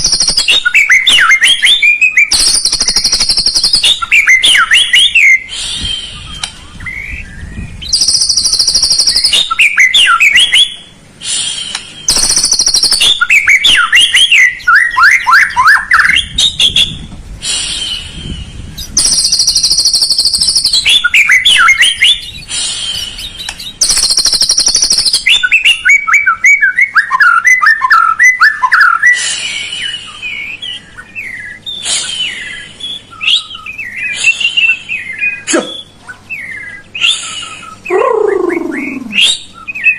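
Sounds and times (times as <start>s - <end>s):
high buzzing bird notes: 0.0s - 39.9s
shama whistles and trills: 0.0s - 39.9s.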